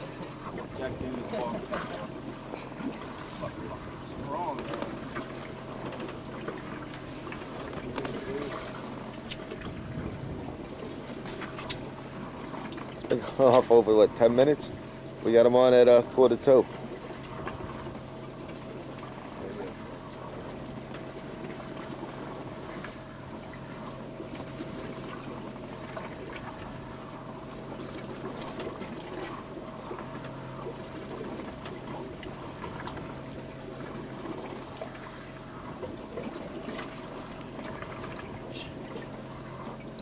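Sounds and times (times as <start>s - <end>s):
low machine hum: 0.0s - 40.0s
water splashing against hull: 0.0s - 40.0s.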